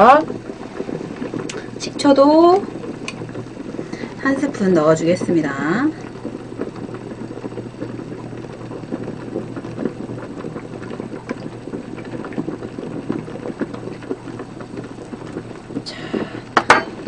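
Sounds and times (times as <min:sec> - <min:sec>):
pots bubbling on stove: 0:00.0 - 0:17.0.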